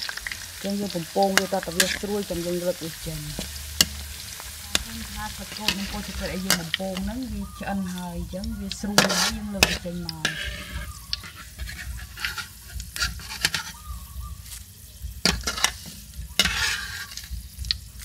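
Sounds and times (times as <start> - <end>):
leaves sizzling in hot oil: 0.0 - 18.0
metal ladle scraping a wok: 0.0 - 18.0.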